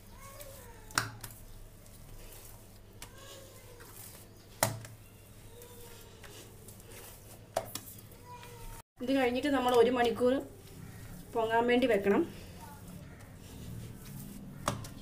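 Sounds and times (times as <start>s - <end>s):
hands kneading dough: 0.0s - 15.0s.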